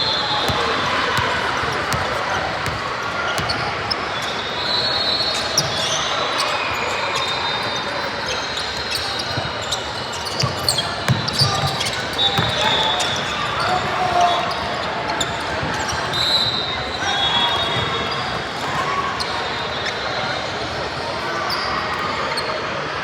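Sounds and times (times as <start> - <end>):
spectators chatting: 0.0 - 23.0.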